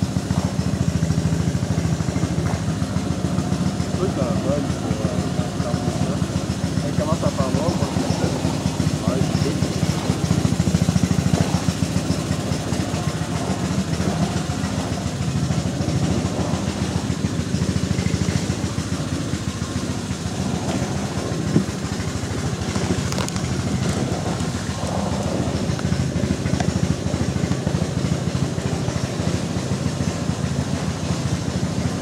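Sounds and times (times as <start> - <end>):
small outboard motor running: 0.0 - 32.0.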